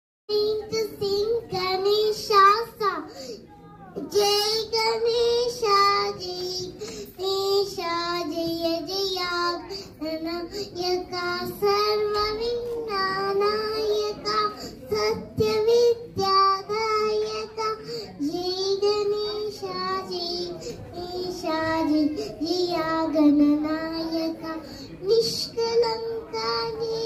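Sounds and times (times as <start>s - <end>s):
girl singing into microphone: 0.3s - 3.3s, 4.0s - 27.0s.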